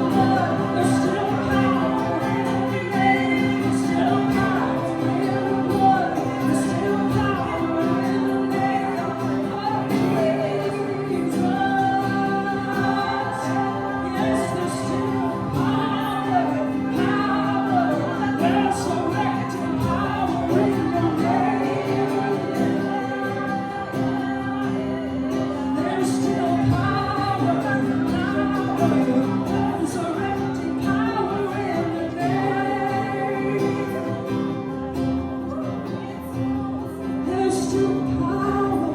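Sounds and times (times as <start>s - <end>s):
voices singing worship music: 0.0s - 38.9s.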